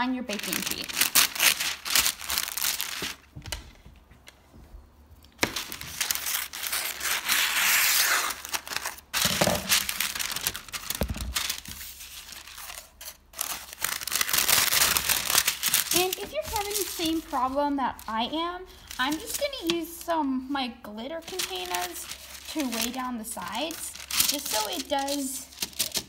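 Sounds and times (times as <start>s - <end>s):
parchment paper crinkling: 0.1s - 4.0s, 5.4s - 20.2s, 21.1s - 26.0s.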